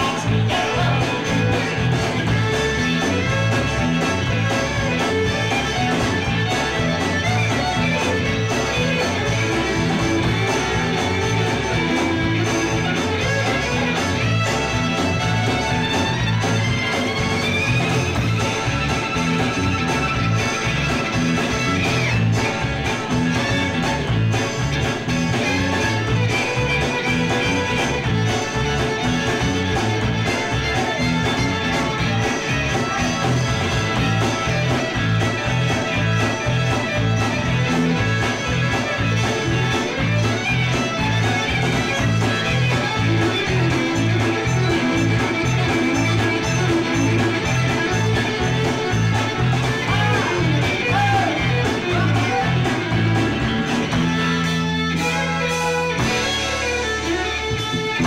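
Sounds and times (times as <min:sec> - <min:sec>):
bass guitar: 0:00.0 - 0:58.0
electric guitar: 0:00.0 - 0:58.0
fiddle: 0:00.0 - 0:58.0.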